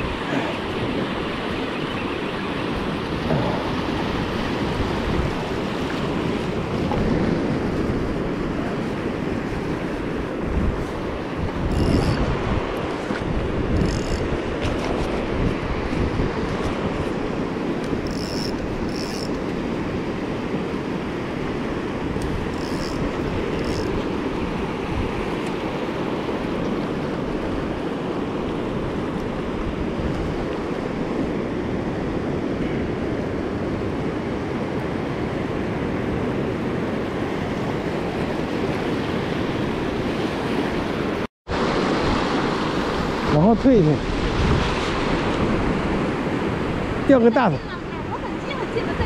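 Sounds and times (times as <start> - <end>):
ocean surf washing: 0.0 - 49.0
wind rumbling on microphone: 0.0 - 49.0.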